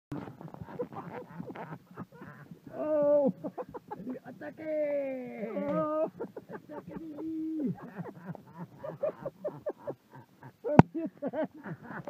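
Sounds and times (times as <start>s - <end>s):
man laughing: 0.1s - 12.0s.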